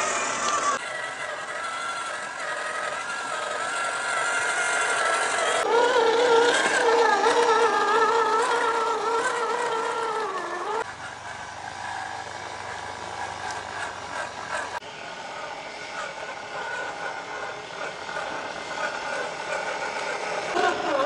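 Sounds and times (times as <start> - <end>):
low motor hum: 0.0 - 21.0
rc car motor whine: 0.0 - 21.0.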